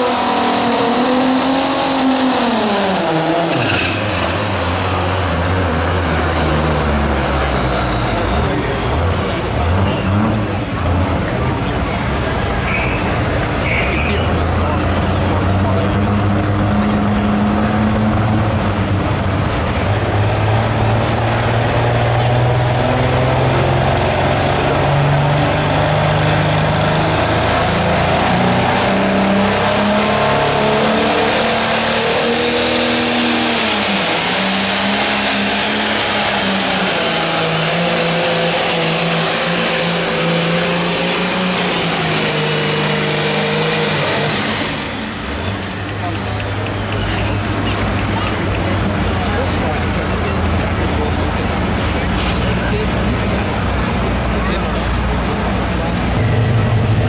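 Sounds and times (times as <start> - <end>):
pulling tractor diesel engine revving: 0.0 - 57.0.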